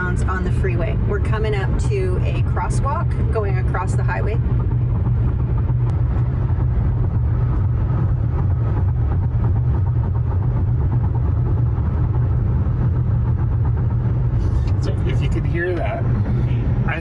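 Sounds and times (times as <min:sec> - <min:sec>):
low road noise drone: 0:00.0 - 0:17.0
tyres over rumble strips: 0:00.0 - 0:17.0.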